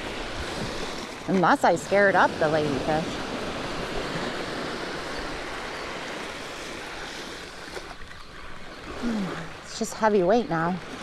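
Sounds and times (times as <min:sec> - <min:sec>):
surf washing onto beach: 0:00.0 - 0:09.7.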